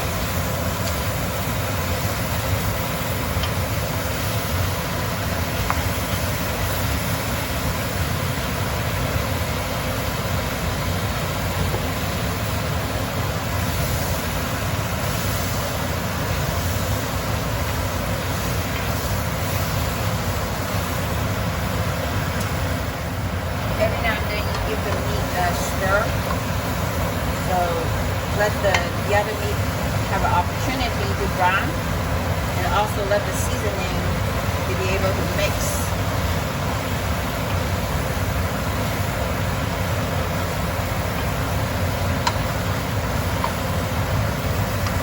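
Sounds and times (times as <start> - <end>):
beef sizzling in a pot: 0.0 - 45.0
exhaust fan running: 0.0 - 45.0.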